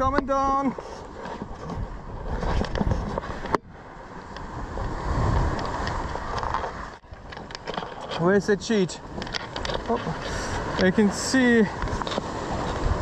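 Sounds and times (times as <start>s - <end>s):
sea rushing: 0.0s - 13.0s
wind buffeting microphone: 0.0s - 13.0s.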